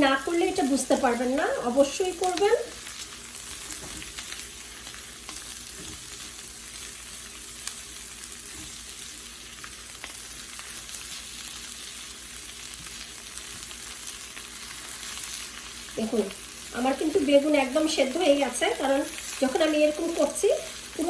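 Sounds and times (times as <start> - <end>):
food frying in oil: 0.0 - 21.0.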